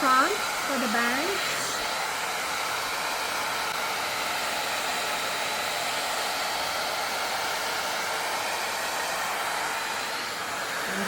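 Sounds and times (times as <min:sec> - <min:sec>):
hair dryer brush blowing air: 0:00.0 - 0:11.0.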